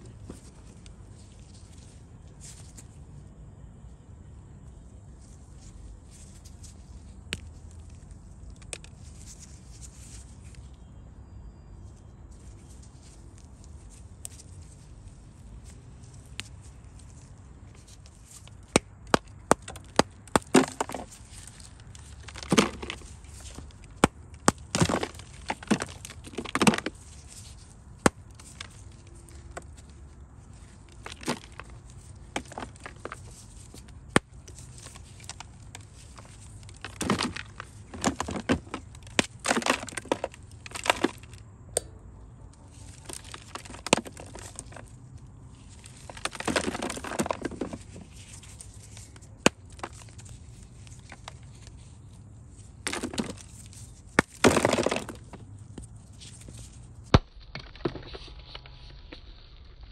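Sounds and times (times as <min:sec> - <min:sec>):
dry clay cracking and crumbling: 0:00.0 - 0:59.9.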